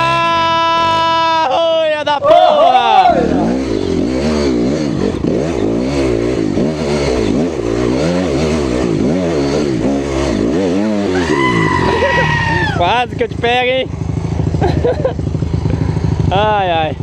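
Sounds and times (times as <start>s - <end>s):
dirt bike engine revving: 2.2s - 17.0s.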